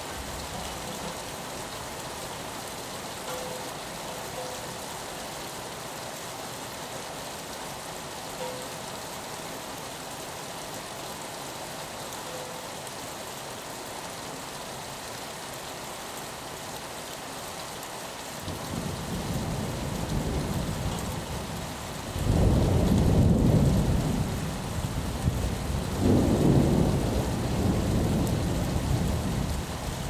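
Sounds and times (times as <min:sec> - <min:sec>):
rain on a window: 0:00.0 - 0:30.0.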